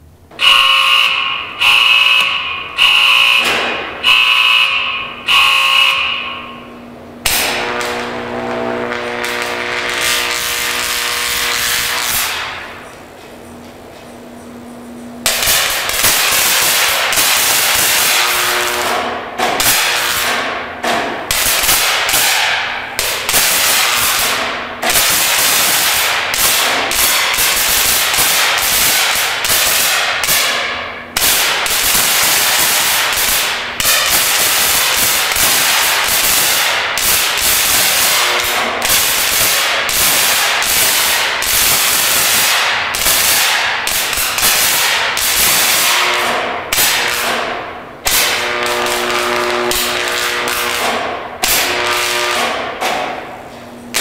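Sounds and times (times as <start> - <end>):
high-voltage arc crackling: 0.4 - 13.0, 15.2 - 52.8.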